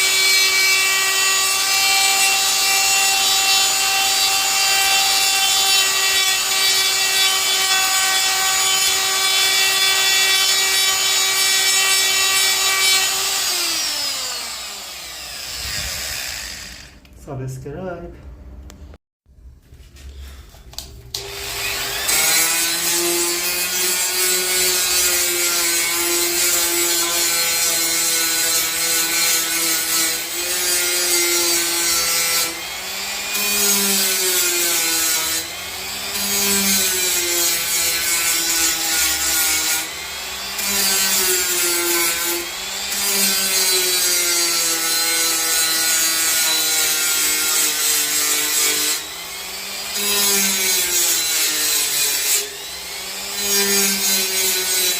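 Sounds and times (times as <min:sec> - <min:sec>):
die grinder cutting wood: 0:00.0 - 0:17.0, 0:21.2 - 0:54.9.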